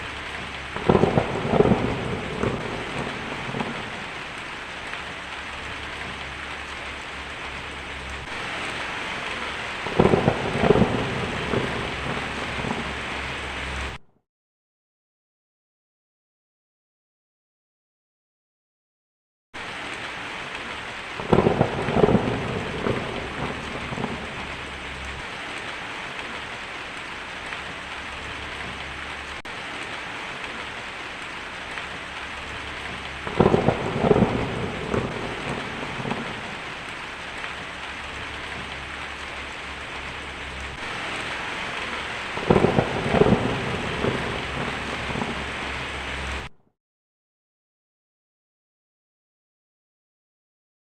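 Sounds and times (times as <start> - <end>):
steady rain: 0.0 - 14.0, 19.6 - 46.5
thunder cracking and rumbling: 0.0 - 14.0, 19.6 - 46.5.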